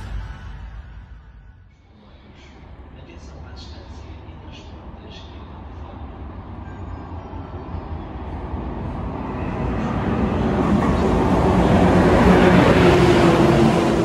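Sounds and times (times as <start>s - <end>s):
electric locomotive hum: 2.0s - 14.0s
rushing wheel-and-rail noise: 2.0s - 14.0s.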